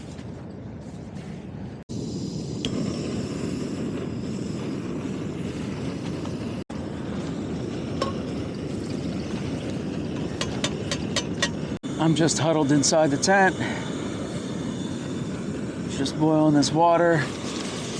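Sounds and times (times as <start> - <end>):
stove burner hissing: 1.8 - 17.9.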